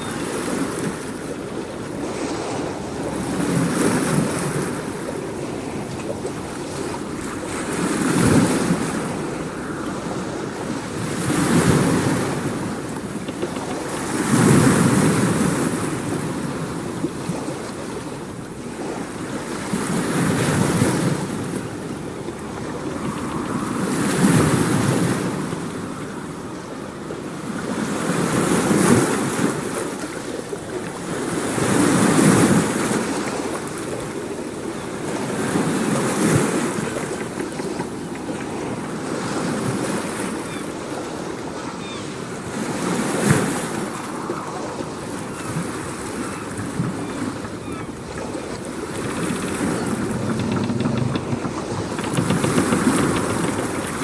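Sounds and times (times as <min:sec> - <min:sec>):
waves washing in: 0:00.0 - 0:54.0.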